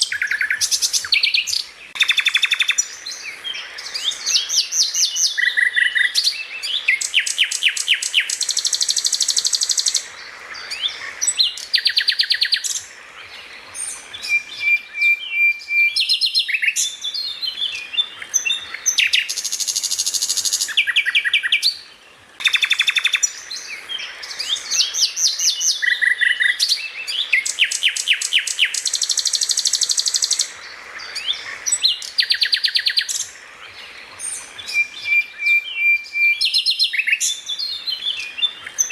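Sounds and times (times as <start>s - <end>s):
songbird trills and chirps: 0.0s - 38.9s.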